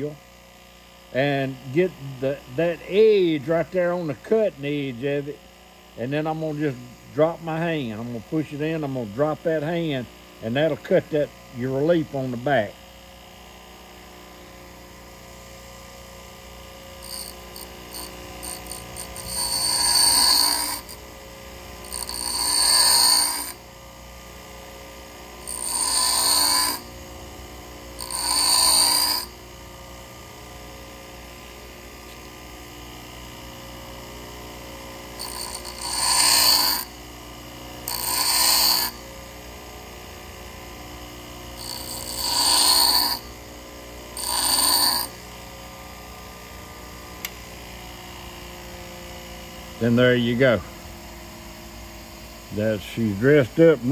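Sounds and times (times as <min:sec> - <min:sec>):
bench grinder motor hum: 0:00.0 - 0:53.9
drill bit grinding on wheel: 0:01.1 - 0:47.0, 0:52.0 - 0:53.9.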